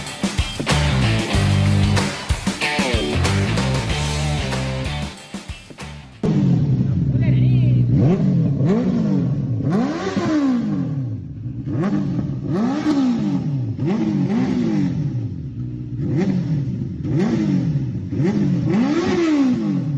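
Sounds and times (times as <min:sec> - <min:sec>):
motorcycle engine revving: 0:00.0 - 0:05.1, 0:06.2 - 0:19.9.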